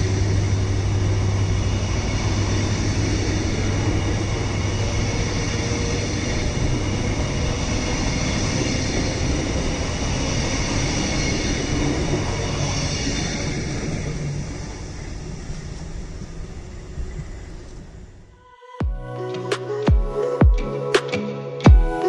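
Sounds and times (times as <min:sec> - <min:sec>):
train wheels rumbling on rail: 0:00.0 - 0:18.3
high whine: 0:00.0 - 0:22.0.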